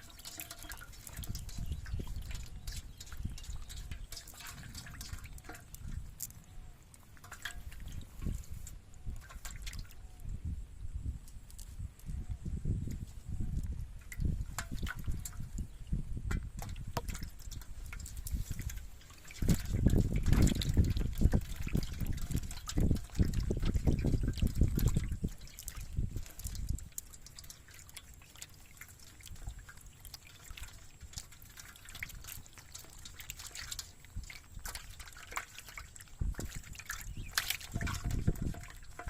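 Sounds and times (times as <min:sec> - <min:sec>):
water splashing and trickling: 0:00.0 - 0:39.0.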